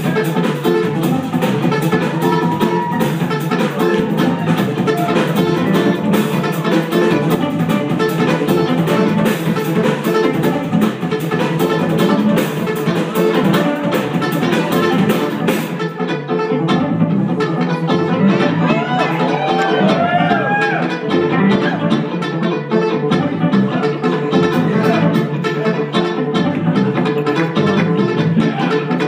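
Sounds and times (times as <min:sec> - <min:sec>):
drum kit: 0:00.0 - 0:29.0
electric bass: 0:00.0 - 0:29.0
electric guitars: 0:00.0 - 0:29.0
keyboards: 0:00.0 - 0:29.0.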